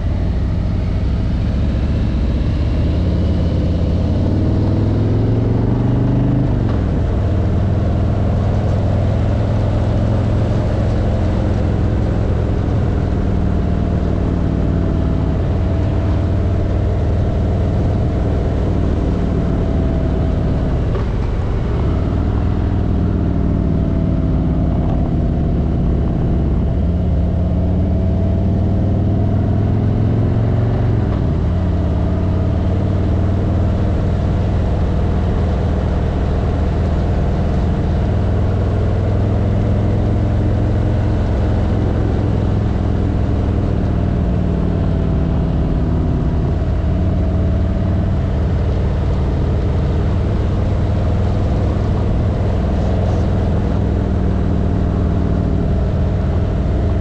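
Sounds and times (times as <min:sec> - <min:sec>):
vehicle engine running: 0:00.0 - 0:57.0
wind and road noise: 0:00.0 - 0:57.0.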